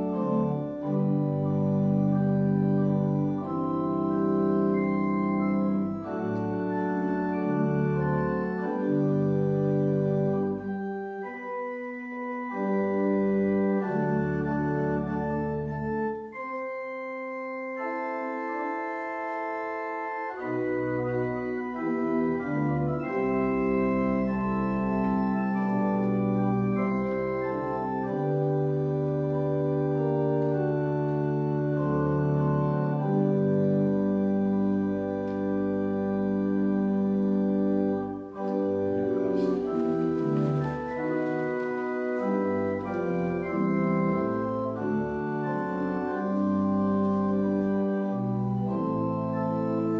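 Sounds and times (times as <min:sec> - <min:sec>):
organ playing slow chords: 0:00.0 - 0:49.9.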